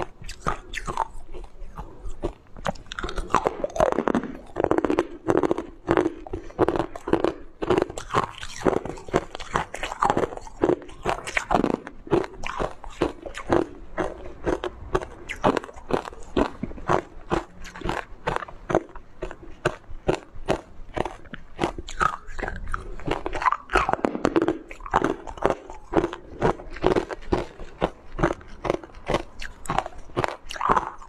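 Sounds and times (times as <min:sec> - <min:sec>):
person crunching ice: 0:00.0 - 0:31.0.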